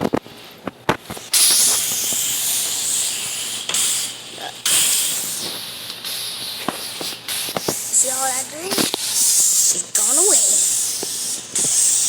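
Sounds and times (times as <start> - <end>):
spray wand hissing: 1.3 - 12.0.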